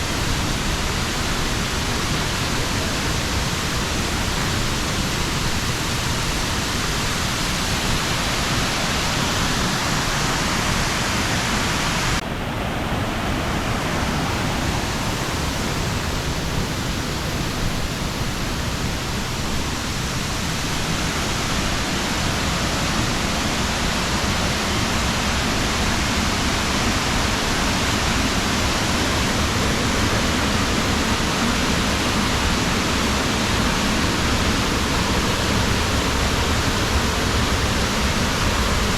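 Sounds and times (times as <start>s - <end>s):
rushing falling water: 0.0s - 38.9s.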